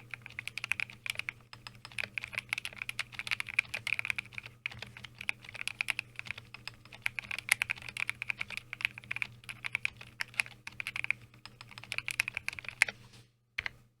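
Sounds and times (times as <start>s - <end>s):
mechanical keyboard typing: 0.0s - 13.0s
faint low hum: 0.0s - 14.0s.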